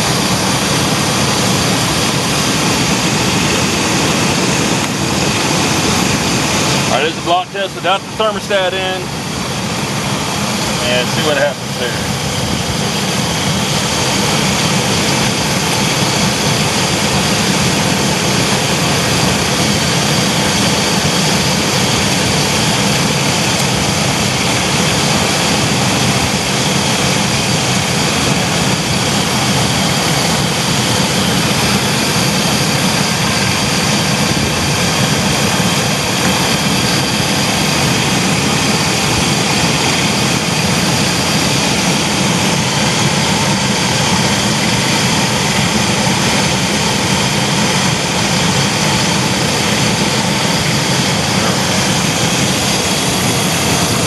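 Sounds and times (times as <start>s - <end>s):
van engine running: 0.0s - 54.0s.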